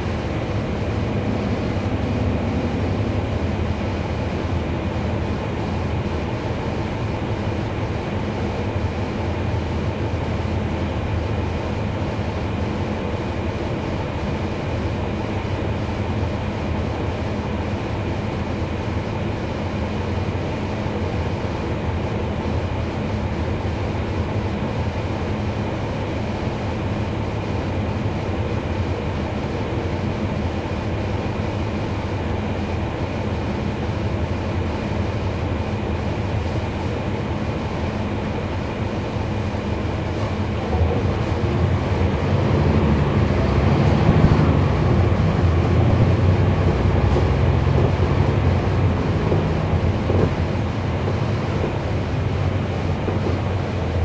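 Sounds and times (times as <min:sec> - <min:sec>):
bus engine hum and rumble: 0:00.0 - 0:54.0.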